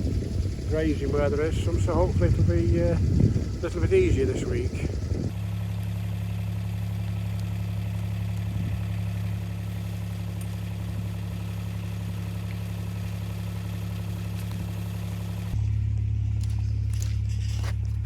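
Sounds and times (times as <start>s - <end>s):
vehicle engine running steadily: 0.0s - 18.0s.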